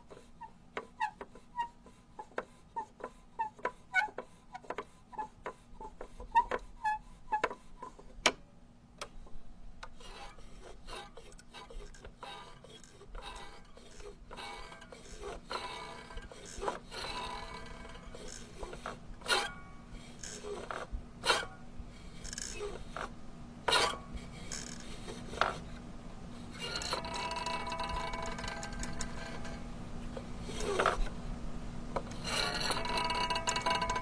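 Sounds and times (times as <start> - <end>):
rasping rubber rubbing: 0.0 - 8.2, 10.0 - 25.8, 26.4 - 31.2, 32.0 - 34.0.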